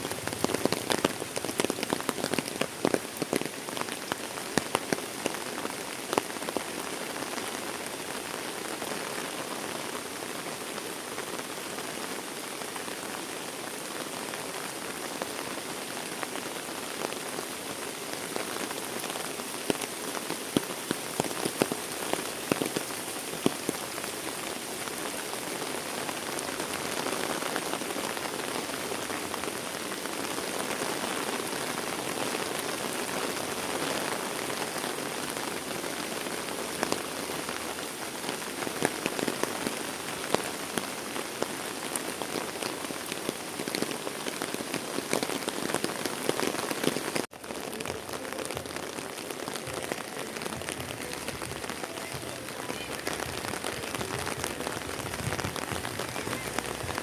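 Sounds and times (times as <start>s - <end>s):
raindrop impacts: 0.0s - 6.7s, 17.1s - 57.0s
heavy rain: 0.0s - 57.0s.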